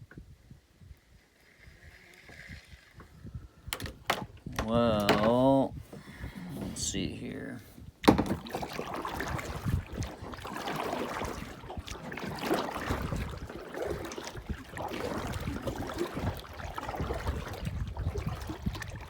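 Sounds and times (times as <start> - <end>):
wind buffeting microphone: 0.0 - 19.0
water lapping against kayak hull: 0.8 - 19.0.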